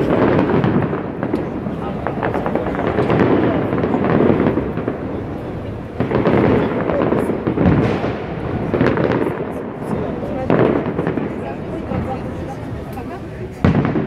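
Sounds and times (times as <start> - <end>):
firework shells bursting: 0.0 - 11.4
fireworks crackling: 0.0 - 14.0.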